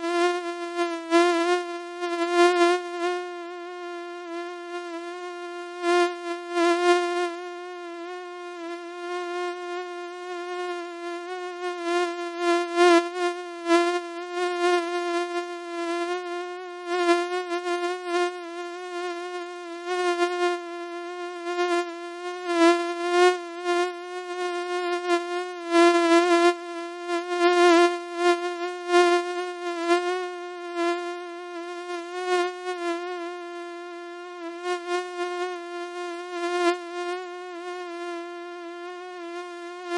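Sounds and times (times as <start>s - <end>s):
mosquito buzzing: 0.0s - 39.9s.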